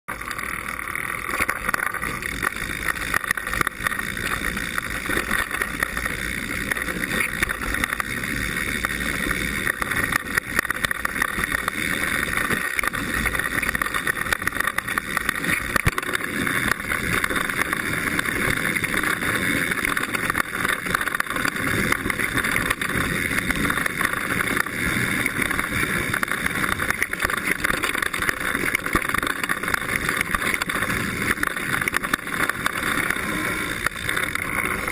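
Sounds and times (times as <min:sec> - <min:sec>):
bike rattling and knocking: 0:00.1 - 0:34.9
tyre and wind noise: 0:00.1 - 0:34.9.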